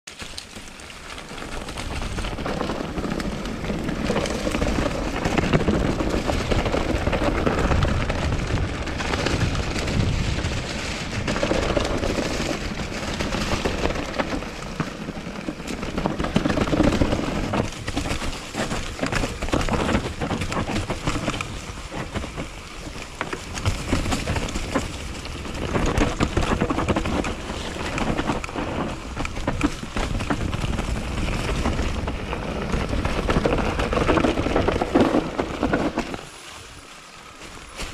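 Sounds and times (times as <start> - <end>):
bike knocks and rattles: 0.1 - 36.3
tyres rolling over dirt: 0.1 - 37.9
wind on camera microphone: 1.5 - 36.3.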